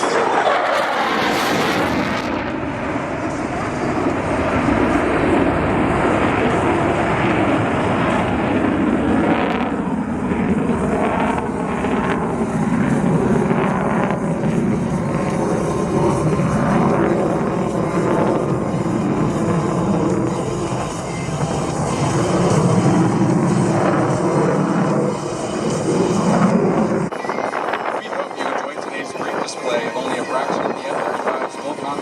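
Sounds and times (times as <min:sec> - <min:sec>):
jet flying low overhead: 0:00.0 - 0:32.0.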